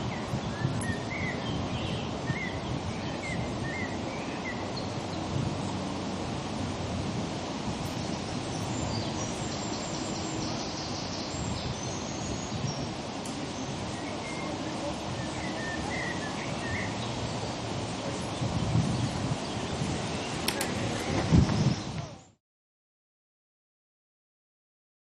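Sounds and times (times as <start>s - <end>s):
small birds chirping: 0.0s - 5.9s, 7.7s - 22.4s
wind on microphone: 0.0s - 22.4s.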